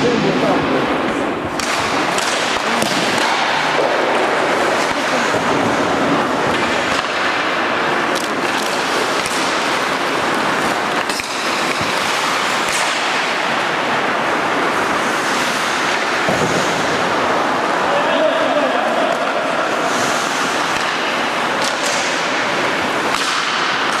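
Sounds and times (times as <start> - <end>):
arena ambience: 0.0 - 24.0
skates hissing on ice: 1.7 - 18.7, 19.5 - 24.0.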